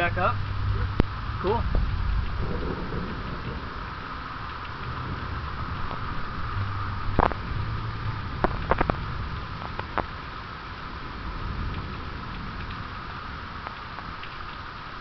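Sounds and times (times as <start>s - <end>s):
heavy rain hissing: 0.0s - 15.0s
low thunder rumble: 0.0s - 15.0s.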